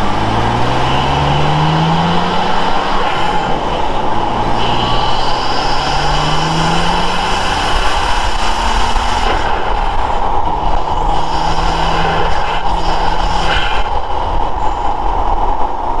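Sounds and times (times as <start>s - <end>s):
car engine cruising: 0.0s - 16.0s
tyre and wind noise: 0.0s - 16.0s.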